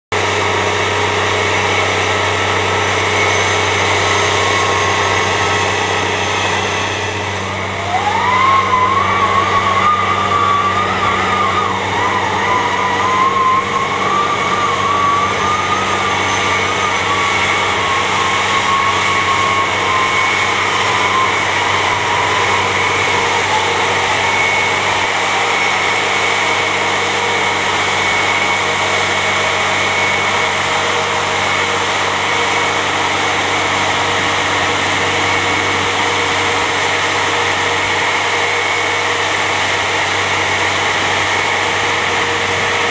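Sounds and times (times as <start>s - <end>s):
snow vehicle engine running: 0.2s - 42.9s
wavering high whine: 0.2s - 42.9s.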